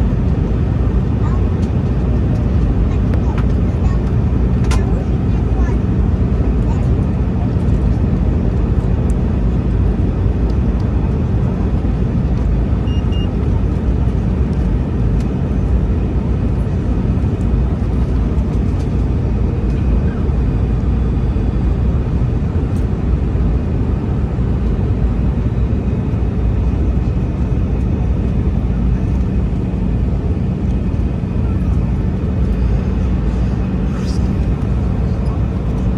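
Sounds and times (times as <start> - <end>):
airplane cabin engine drone: 0.0 - 35.9.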